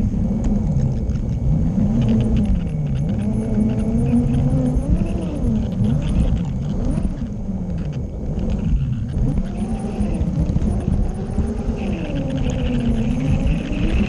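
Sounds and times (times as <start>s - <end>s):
wheels rumbling on track: 0.0s - 14.0s
model train motor whining: 1.8s - 14.0s.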